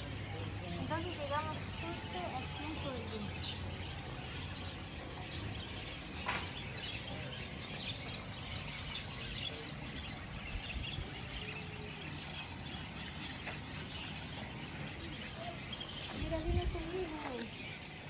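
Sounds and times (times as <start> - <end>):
birds chirping: 0.0 - 18.0
low background noise: 0.0 - 18.0.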